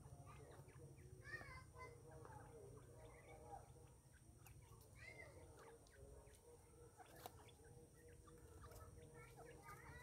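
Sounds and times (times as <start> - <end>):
birds calling and chirping: 0.0 - 10.0.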